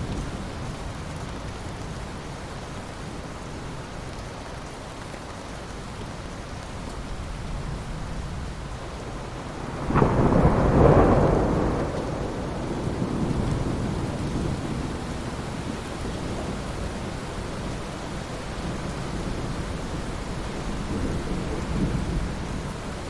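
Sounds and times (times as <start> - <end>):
rain falling on water: 0.0 - 23.0.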